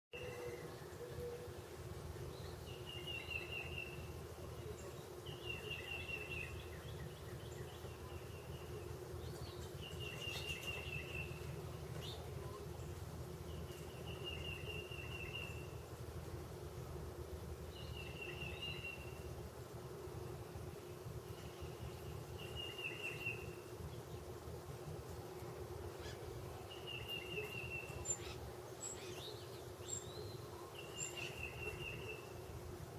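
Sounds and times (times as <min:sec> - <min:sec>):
steady low hum: 0:00.2 - 0:32.9.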